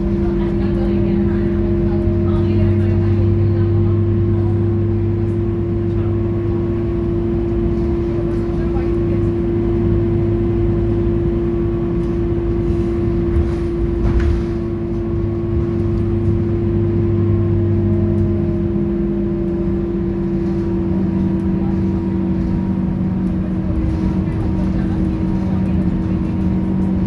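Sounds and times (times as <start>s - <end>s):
bus engine humming: 0.0s - 27.0s.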